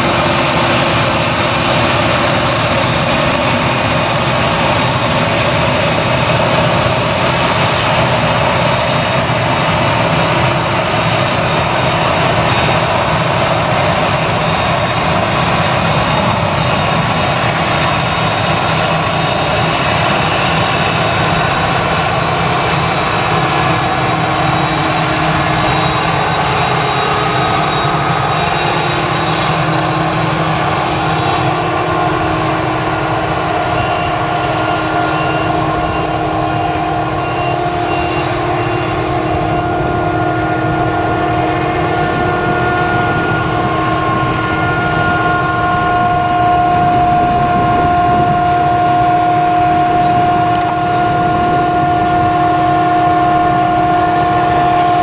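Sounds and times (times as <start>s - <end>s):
harvester engine drone: 0.0s - 55.0s
high whining tones: 0.0s - 55.0s
tractor engine: 0.0s - 55.0s.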